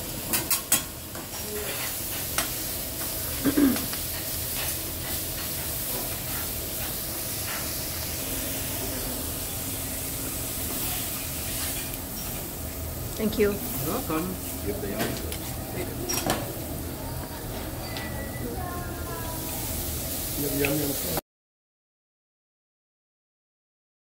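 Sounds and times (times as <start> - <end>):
food sizzling on griddle: 0.0 - 21.2.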